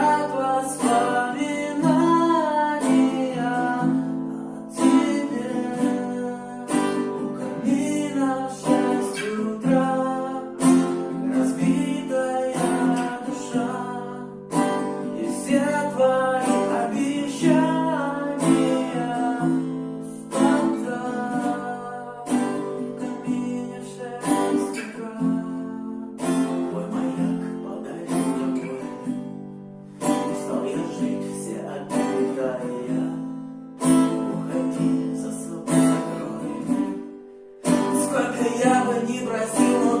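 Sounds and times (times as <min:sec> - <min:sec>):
person singing: 0:00.0 - 0:29.1, 0:30.1 - 0:40.0
acoustic guitar strumming: 0:00.0 - 0:40.0.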